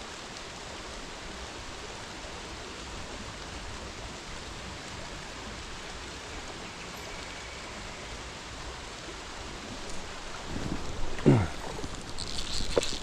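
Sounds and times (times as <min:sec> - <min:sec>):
rain falling: 0:00.0 - 0:13.0
stream water running: 0:00.0 - 0:13.0.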